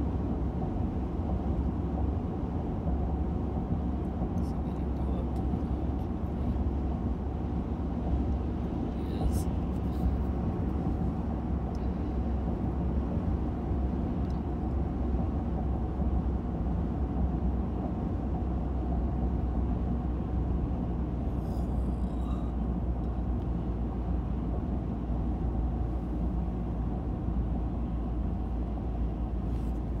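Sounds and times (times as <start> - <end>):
car cabin road and engine rumble: 0.0 - 30.0.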